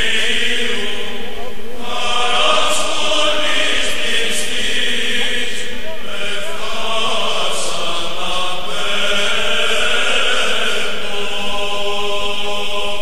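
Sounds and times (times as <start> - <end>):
slow vocal chant: 0.0 - 13.0.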